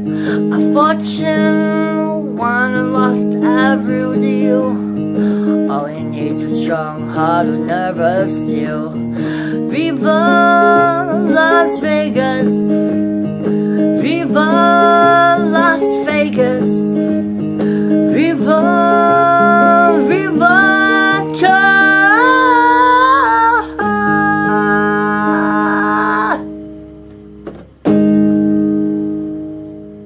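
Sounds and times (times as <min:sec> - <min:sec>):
person singing long notes: 0:00.0 - 0:12.9, 0:13.8 - 0:26.6
strummed guitar: 0:00.0 - 0:30.0.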